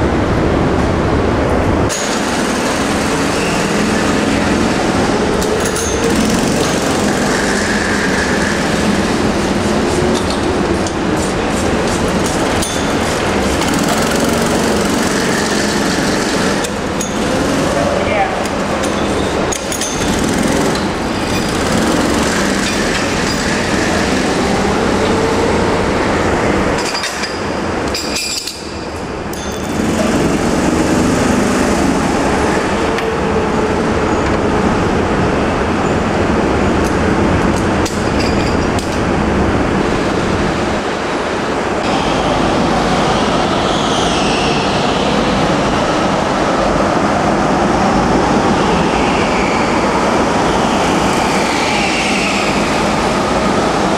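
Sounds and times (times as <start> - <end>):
go-kart engines revving: 0.0 - 53.9.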